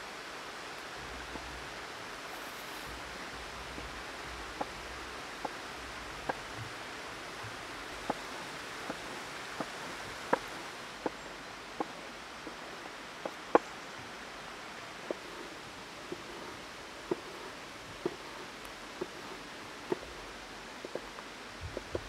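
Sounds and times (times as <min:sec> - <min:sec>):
stream hissing: 0:00.0 - 0:22.0.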